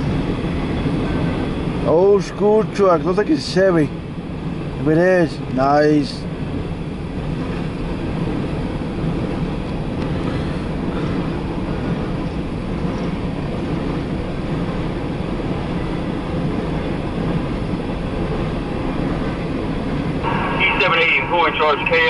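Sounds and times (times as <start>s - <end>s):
hopper cars rolling on rails: 0.0s - 22.0s.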